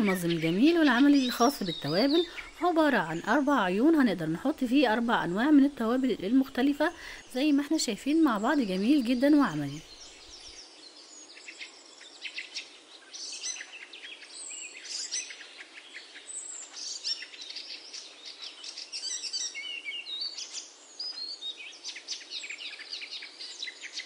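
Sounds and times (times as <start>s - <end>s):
faint steady hiss: 0.0s - 24.0s
small birds chirping: 0.0s - 24.0s.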